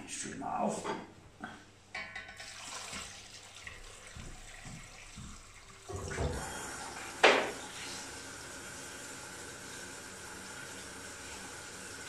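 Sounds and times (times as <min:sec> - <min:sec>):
water pouring into metal pot: 0:02.3 - 0:12.0.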